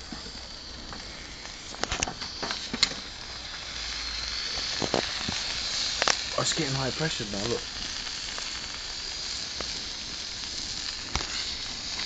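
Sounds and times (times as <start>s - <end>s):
beer sizzling from a can: 0.0s - 12.0s.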